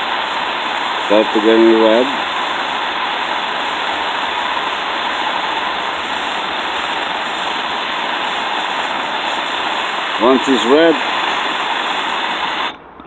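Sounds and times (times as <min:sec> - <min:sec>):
torch flame hissing: 0:00.0 - 0:12.8.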